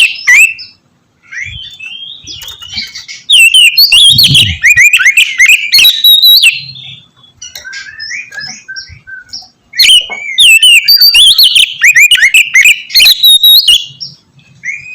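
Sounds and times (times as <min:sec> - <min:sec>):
bird singing: 0:00.0 - 0:14.9.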